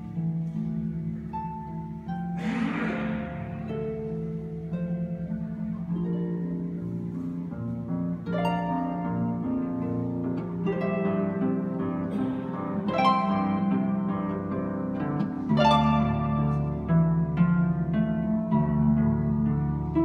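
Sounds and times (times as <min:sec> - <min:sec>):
harp playing solo: 0:00.0 - 0:20.0.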